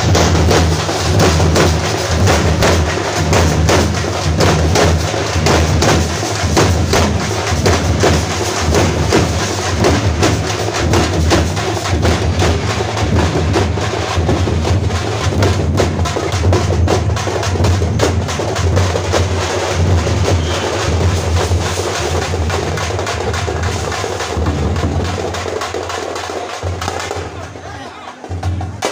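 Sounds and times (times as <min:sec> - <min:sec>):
frame drums beaten fast: 0:00.0 - 0:28.9.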